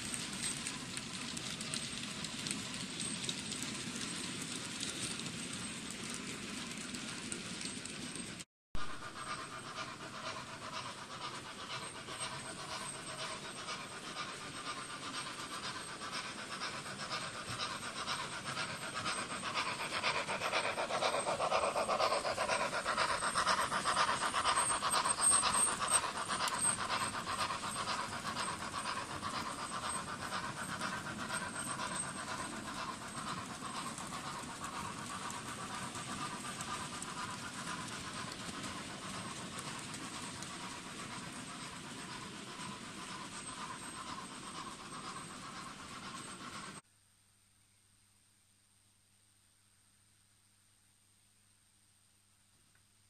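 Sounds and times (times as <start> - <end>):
model trains whirring and rattling: 0.0 - 46.8.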